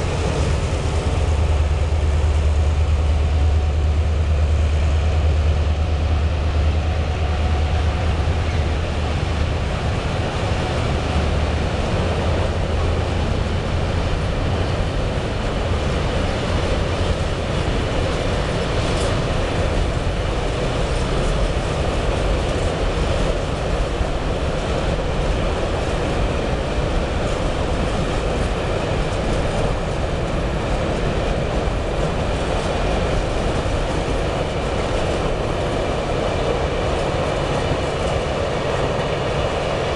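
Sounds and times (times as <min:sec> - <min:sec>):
freight train wagons rumbling: 0:00.0 - 0:39.9.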